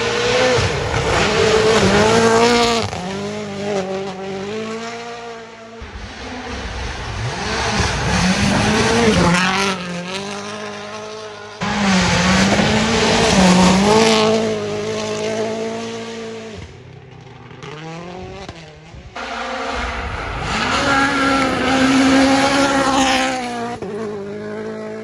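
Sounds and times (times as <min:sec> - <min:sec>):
rally car engine at high revs: 0:00.0 - 0:25.0.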